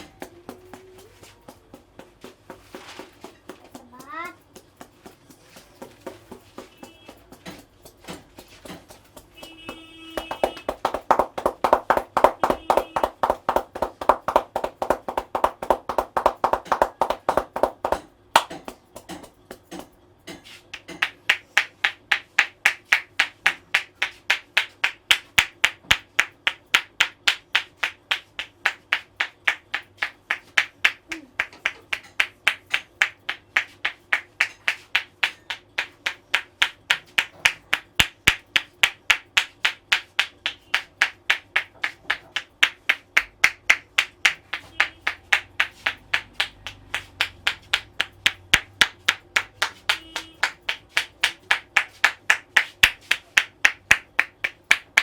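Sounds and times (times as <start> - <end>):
hands slapping head: 0.0 - 55.0.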